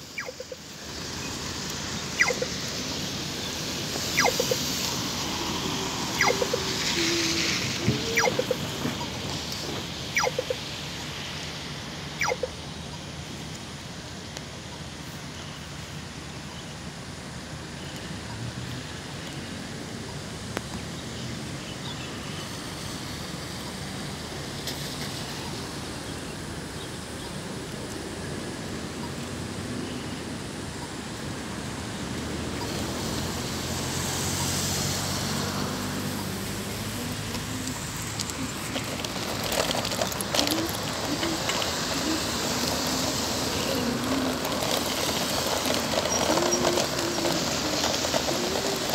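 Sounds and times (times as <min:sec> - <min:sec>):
road traffic hum: 0:00.0 - 0:48.9
tyres hissing on wet road: 0:00.0 - 0:48.9.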